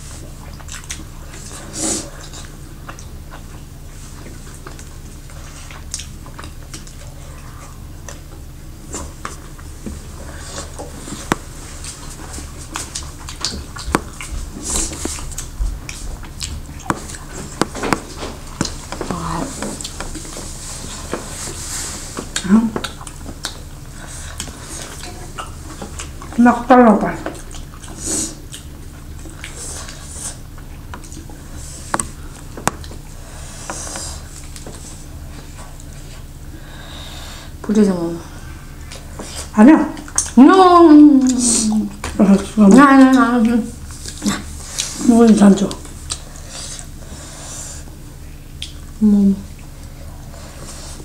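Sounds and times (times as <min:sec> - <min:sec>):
people chewing: 0:00.0 - 0:51.0
steady low hum: 0:00.0 - 0:51.0.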